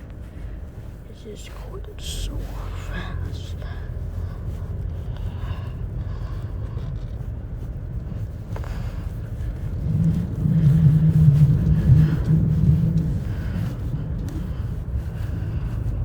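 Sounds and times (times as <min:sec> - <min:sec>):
car interior road rumble: 0:00.0 - 0:16.0
low hum: 0:00.0 - 0:16.0.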